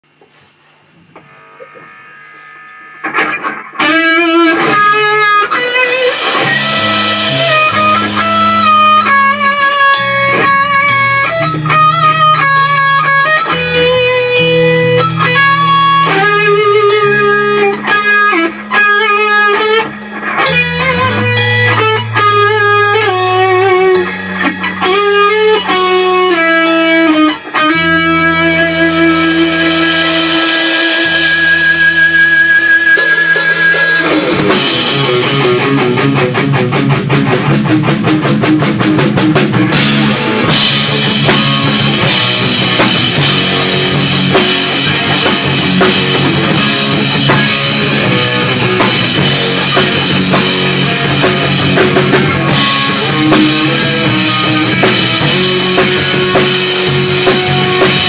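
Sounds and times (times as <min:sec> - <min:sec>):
sustained bass notes: 0:00.0 - 0:03.2, 0:03.9 - 0:58.0
electric guitar melody: 0:00.3 - 0:58.0.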